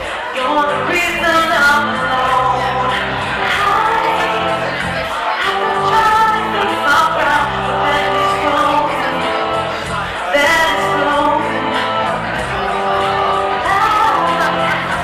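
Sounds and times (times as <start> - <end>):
band music: 0.0 - 15.0
person singing: 0.0 - 15.0
held bass notes: 0.7 - 15.0.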